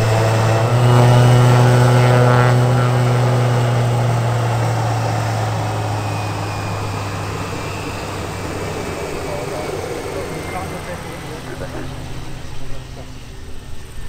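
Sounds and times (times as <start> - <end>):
turboprop engine drone: 0.0 - 14.0.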